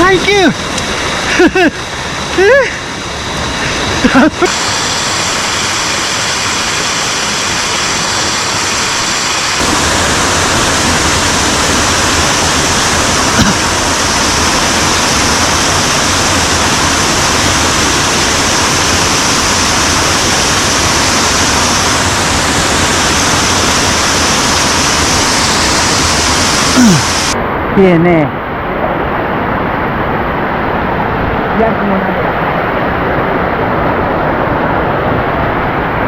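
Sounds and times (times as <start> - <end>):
mountain stream rushing: 0.0 - 36.0.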